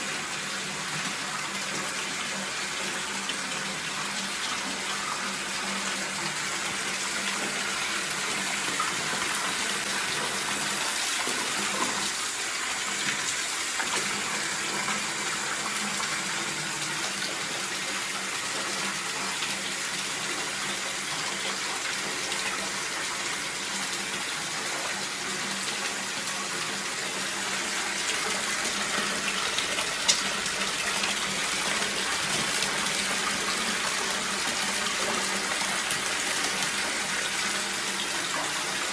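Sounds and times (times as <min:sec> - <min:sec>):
tap water running into bathtub: 0:00.0 - 0:38.9.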